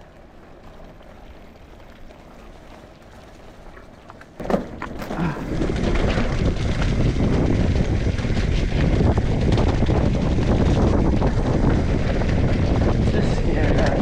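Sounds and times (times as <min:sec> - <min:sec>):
mountain bike tyre noise and rattling: 0:00.0 - 0:14.0.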